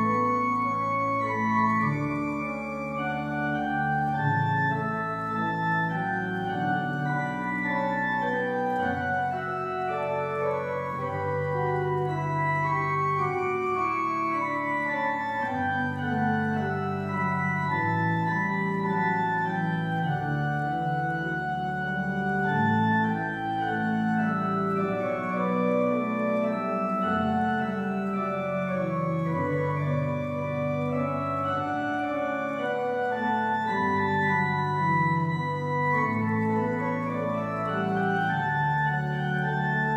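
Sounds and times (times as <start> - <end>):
pipe organ chords: 0.0 - 39.9.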